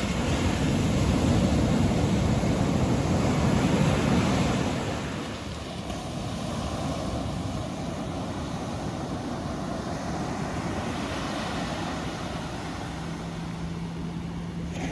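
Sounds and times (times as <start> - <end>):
low engine hum: 0.0 - 14.9
surf roaring: 0.0 - 14.9
wind: 0.0 - 14.9.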